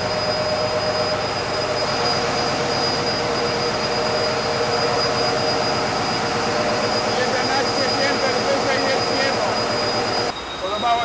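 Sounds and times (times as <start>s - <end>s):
diesel generators running: 0.0s - 11.0s
high machinery whine: 0.0s - 11.0s.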